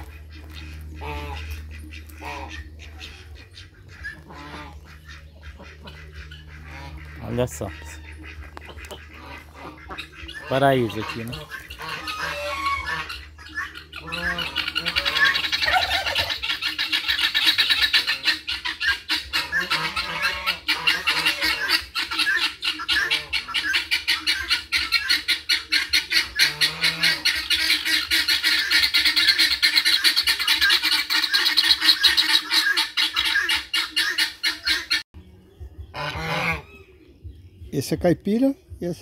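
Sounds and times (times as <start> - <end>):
fowl and ducks calling: 0.0 - 39.0.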